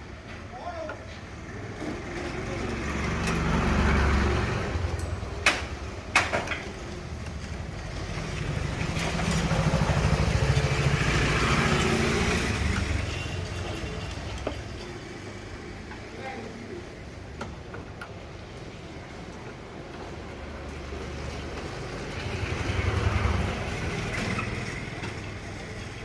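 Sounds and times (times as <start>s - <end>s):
vehicle engines passing by: 0.0s - 26.0s.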